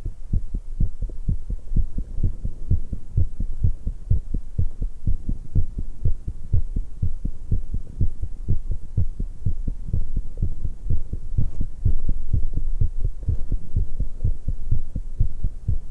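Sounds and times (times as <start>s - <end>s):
fast heartbeat: 0.0s - 15.9s.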